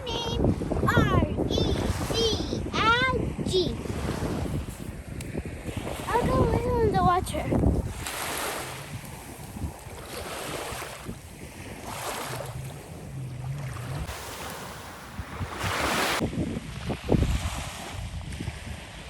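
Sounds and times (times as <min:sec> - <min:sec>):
wind buffeting microphone: 0:00.0 - 0:19.0
sea waves washing in: 0:00.3 - 0:19.0.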